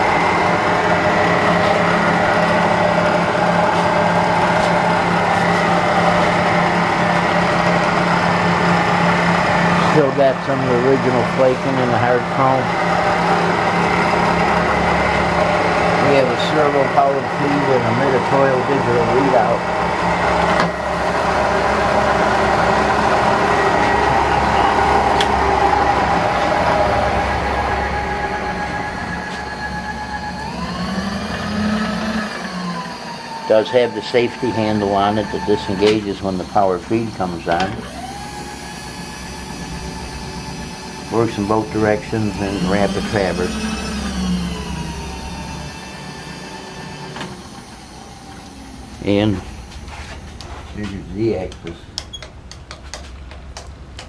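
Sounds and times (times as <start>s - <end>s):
motor whine: 0.0s - 52.2s
milling machine running: 0.0s - 52.3s.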